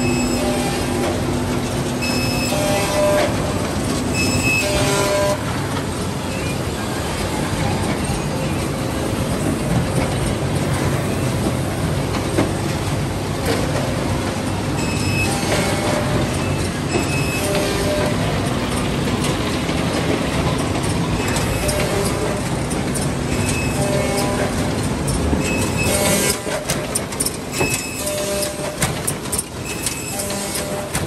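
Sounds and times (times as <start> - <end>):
binding machine running: 0.0 - 31.0.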